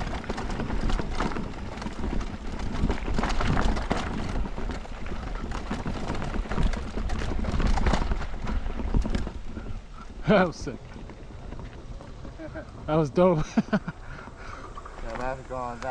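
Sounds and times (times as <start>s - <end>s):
bike knocking and rattling: 0.0s - 15.9s
bike tyres on dirt: 0.0s - 15.9s
wind buffeting microphone: 0.0s - 15.9s.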